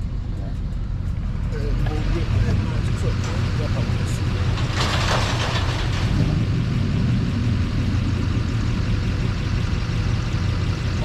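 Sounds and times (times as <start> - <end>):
road noise rushing: 0.0 - 11.0
truck engine hum: 0.0 - 11.0.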